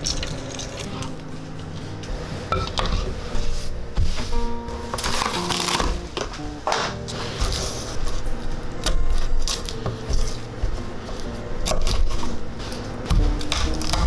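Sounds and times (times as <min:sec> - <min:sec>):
quiet background music: 0:00.0 - 0:14.0
utensils and dishes clinking: 0:00.0 - 0:14.0.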